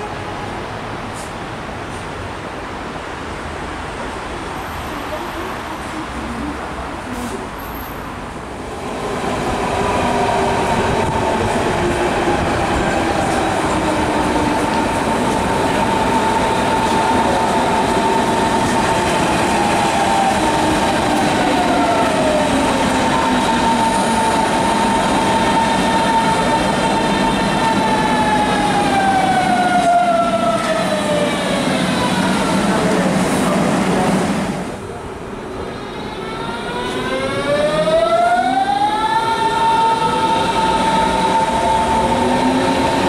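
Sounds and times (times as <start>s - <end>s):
train rolling on rails: 0.0s - 43.0s.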